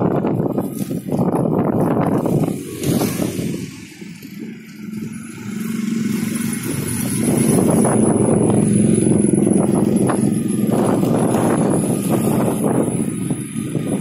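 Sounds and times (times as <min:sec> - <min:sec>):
vehicle engine and wind rush: 0:00.0 - 0:14.0.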